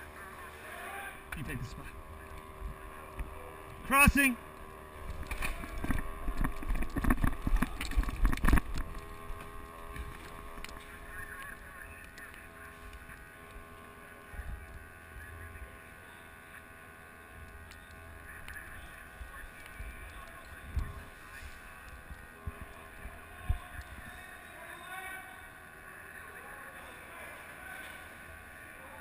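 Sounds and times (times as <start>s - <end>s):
background hum: 0.0s - 29.0s.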